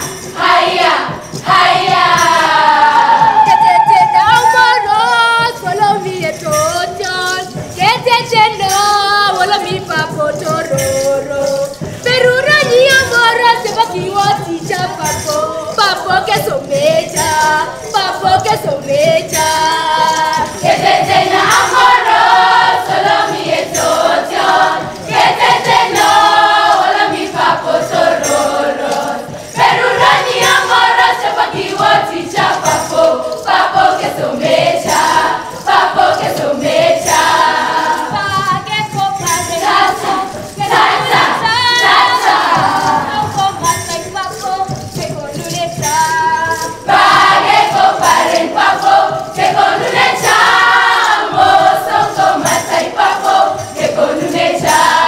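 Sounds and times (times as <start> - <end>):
group singing in chorus: 0.0 - 55.0
rhythmic percussive beat: 0.0 - 55.0.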